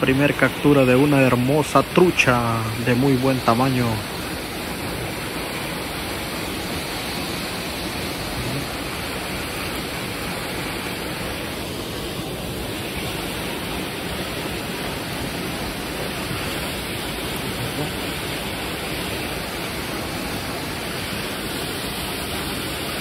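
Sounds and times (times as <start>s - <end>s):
water rushing from dam outlet: 0.0s - 23.0s.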